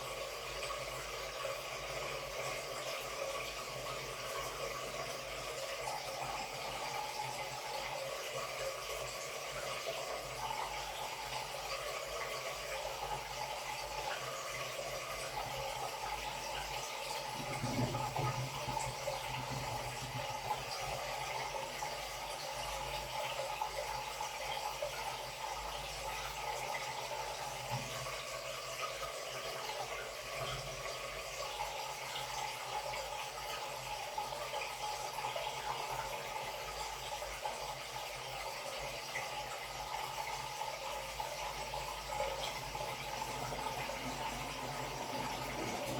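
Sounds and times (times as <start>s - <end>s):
water running into washing machine: 0.0s - 45.9s.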